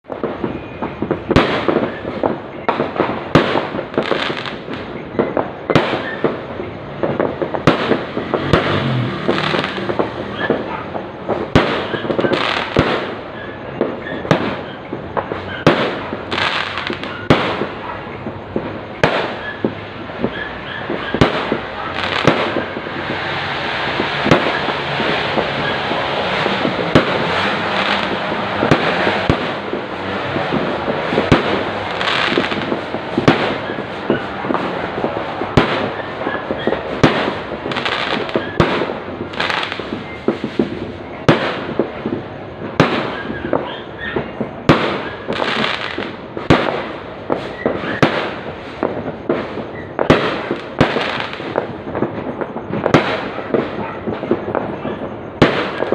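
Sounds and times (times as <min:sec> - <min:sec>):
fireworks bangs: 0:00.0 - 0:55.9
fireworks crackle: 0:00.0 - 0:55.9.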